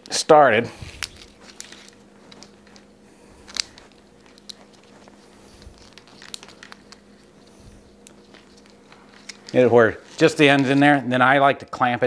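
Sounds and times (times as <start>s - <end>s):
wires clicking and rustling: 0.0s - 11.4s.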